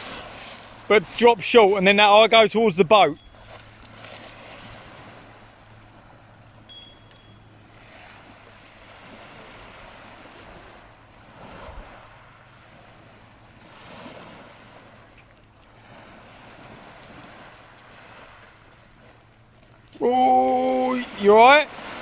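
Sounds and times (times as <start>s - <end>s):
waves washing over shingle: 0.0s - 22.0s.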